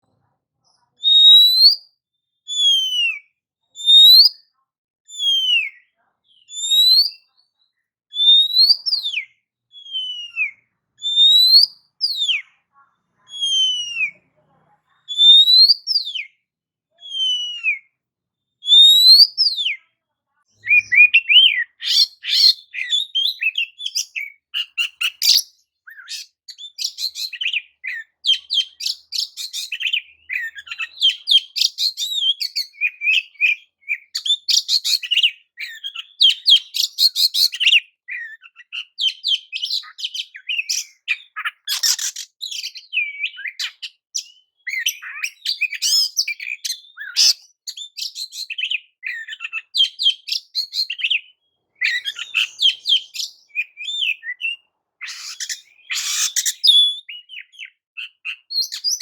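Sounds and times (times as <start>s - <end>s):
bird singing whistles: 1.0s - 1.9s, 2.5s - 4.5s, 5.1s - 7.3s, 8.1s - 12.4s, 13.3s - 14.2s, 15.1s - 16.4s, 17.0s - 18.0s, 18.6s - 19.8s, 20.6s - 59.0s.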